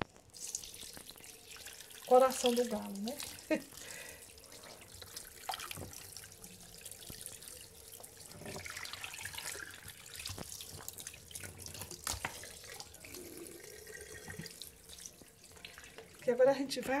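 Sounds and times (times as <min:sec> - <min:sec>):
tap water running into sink: 0:00.1 - 0:17.0.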